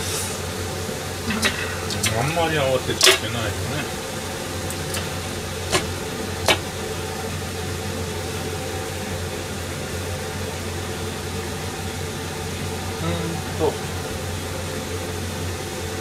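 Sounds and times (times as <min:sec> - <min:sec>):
low machine hum with hiss: 0:00.0 - 0:16.0.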